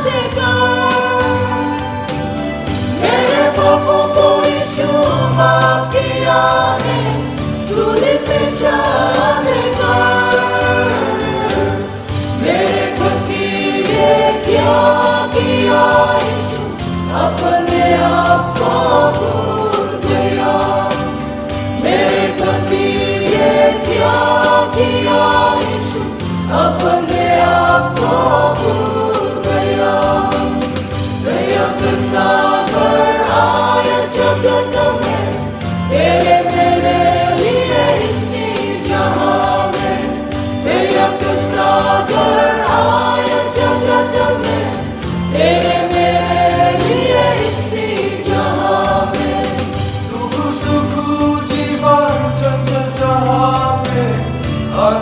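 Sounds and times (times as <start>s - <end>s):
band with bass and drums: 0.0s - 55.0s
mixed choir singing gospel: 0.0s - 55.0s.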